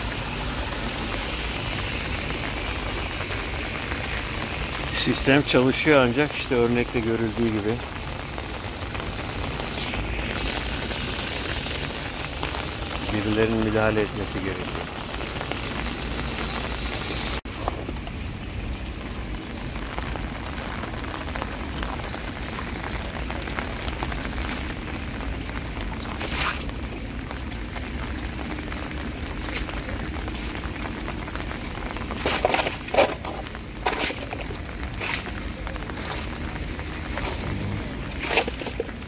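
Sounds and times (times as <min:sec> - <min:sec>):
rain on wet pavement: 0:00.0 - 0:39.0.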